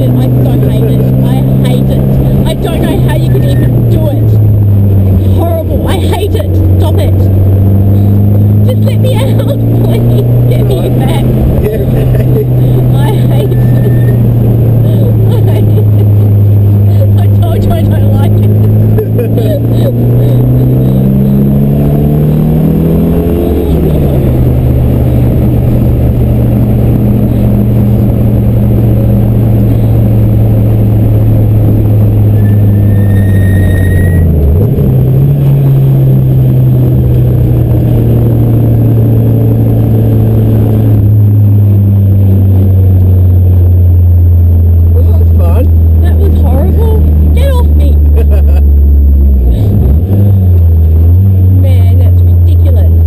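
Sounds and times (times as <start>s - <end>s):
race car engine from inside: 0.0s - 53.0s.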